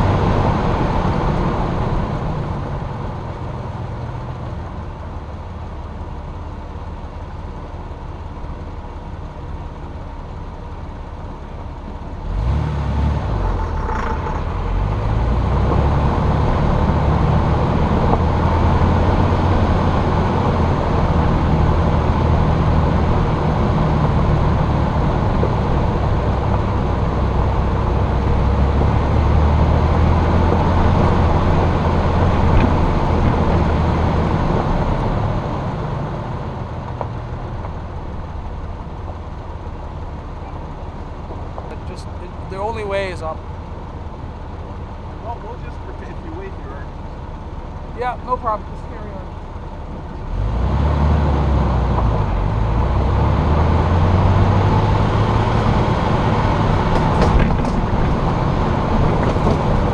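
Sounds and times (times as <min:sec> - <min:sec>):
car engine idling and driving off: 0:00.0 - 0:59.9.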